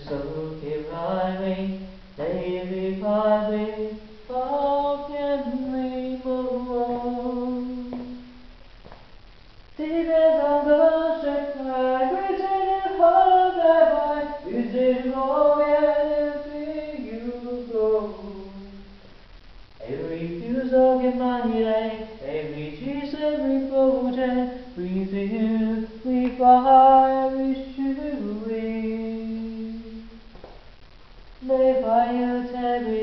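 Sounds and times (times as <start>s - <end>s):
person singing unaccompanied: 0.0s - 8.8s, 9.6s - 30.3s, 31.3s - 33.0s.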